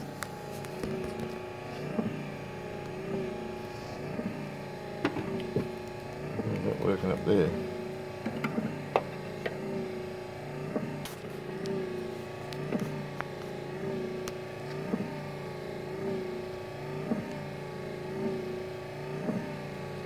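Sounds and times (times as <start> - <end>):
wiper motor humming: 0.0 - 20.0.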